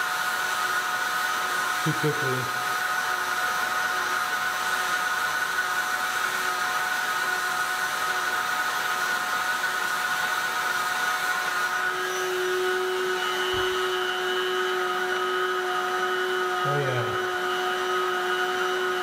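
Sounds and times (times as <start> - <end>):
heat gun fan blowing: 0.0 - 19.0.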